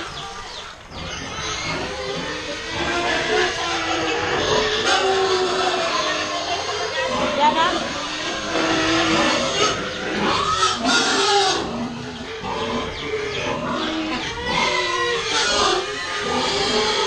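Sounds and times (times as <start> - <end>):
pigs grunting and squealing: 0.0 - 17.0.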